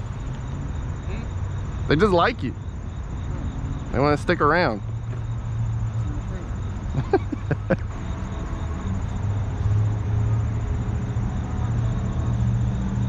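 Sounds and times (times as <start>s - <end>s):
low hum of traffic: 0.0s - 13.0s.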